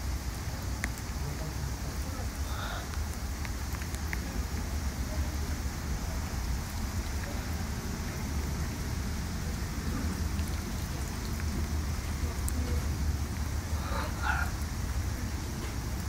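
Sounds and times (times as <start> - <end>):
even hiss: 0.0 - 16.0.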